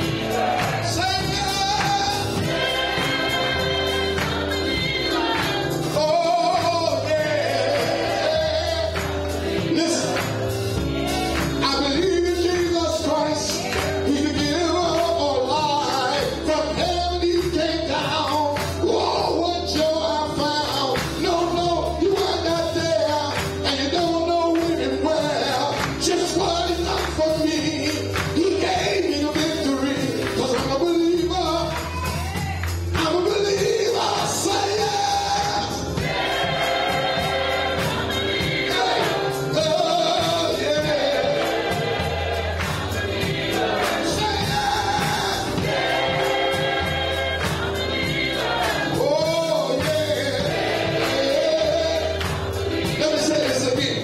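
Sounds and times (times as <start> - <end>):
choir singing gospel: 0.0 - 54.0
drums or tambourine beat: 0.0 - 54.0.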